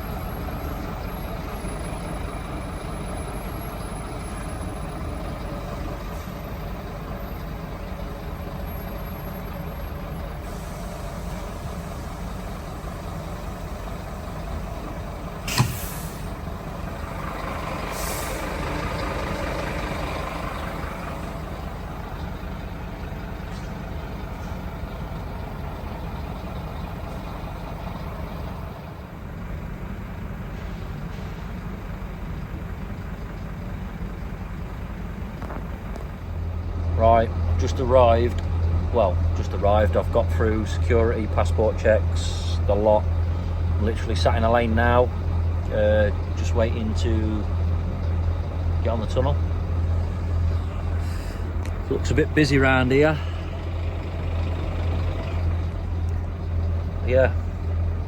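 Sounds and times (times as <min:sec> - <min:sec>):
lorry engine and road rumble: 0:00.0 - 0:58.0.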